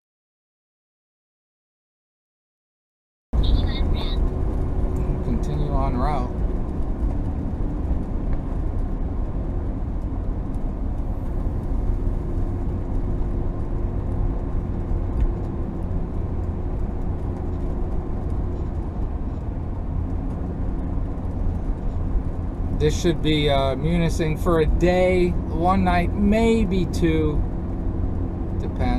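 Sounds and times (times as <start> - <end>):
road and engine rumble: 3.4 - 28.9.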